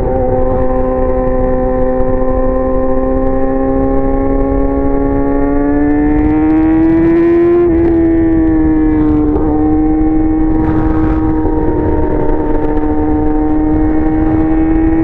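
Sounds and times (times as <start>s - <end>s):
motorcycle engine high-pitched note: 0.0s - 15.0s.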